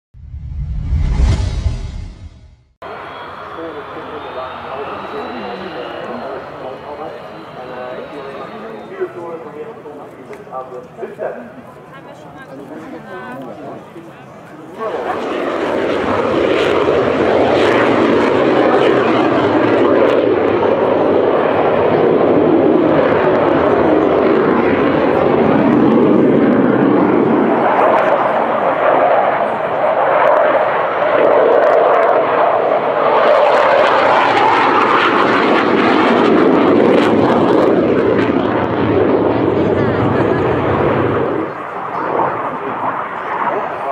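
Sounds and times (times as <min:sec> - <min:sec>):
jet flying low past: 0:00.2 - 0:10.3, 0:14.6 - 0:43.9.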